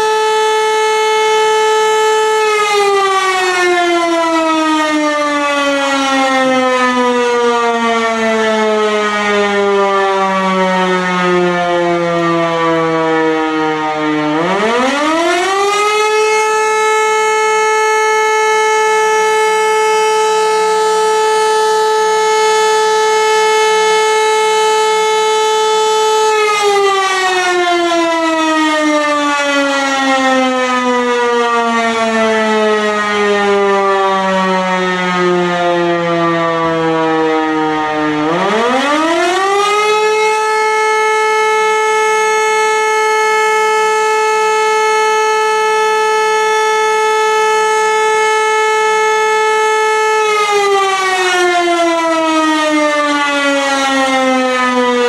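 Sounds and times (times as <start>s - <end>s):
siren winding up and down: 0.0s - 55.0s.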